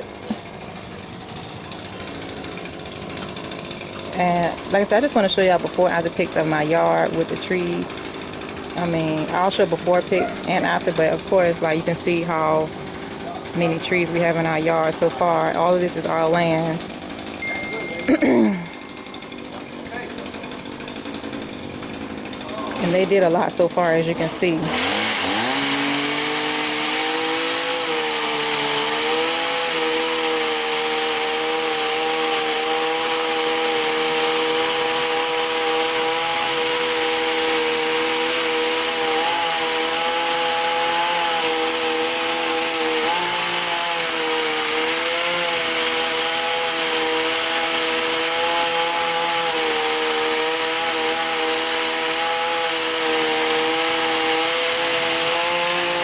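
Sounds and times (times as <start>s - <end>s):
chainsaw cutting tree: 0.0s - 56.0s.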